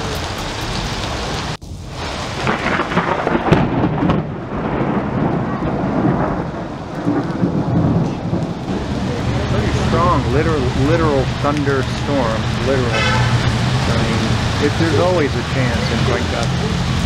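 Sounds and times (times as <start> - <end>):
heavy rain pouring: 0.0 - 17.0
thunder rumbling: 0.0 - 17.0.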